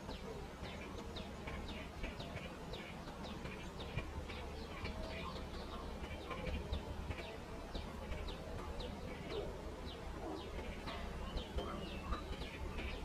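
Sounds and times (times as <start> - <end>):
pipit chirping: 0.0 - 13.0.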